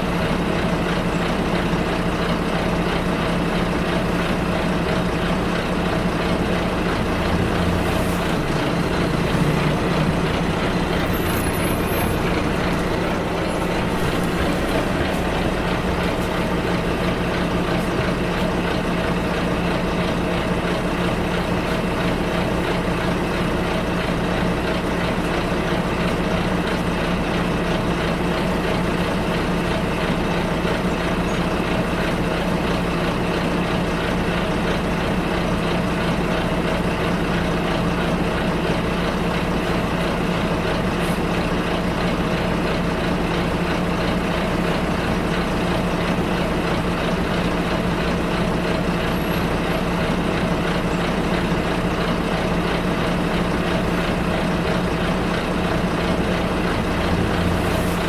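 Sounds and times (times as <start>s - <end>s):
bus engine humming: 0.0s - 58.0s
road noise: 0.0s - 58.0s.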